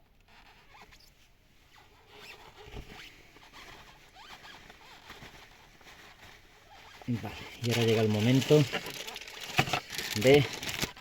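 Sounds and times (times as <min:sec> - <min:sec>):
squeaks and clicks of handled parts: 0:00.1 - 0:11.0.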